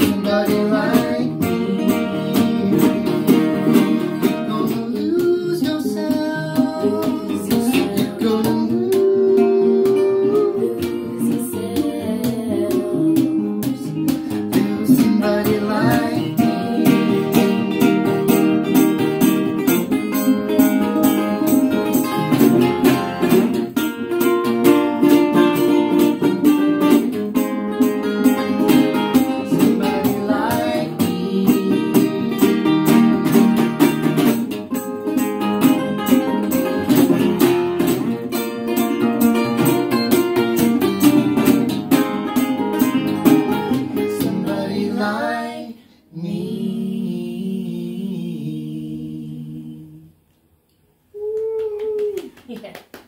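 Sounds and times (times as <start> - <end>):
resonator guitars playing: 0.0 - 45.1.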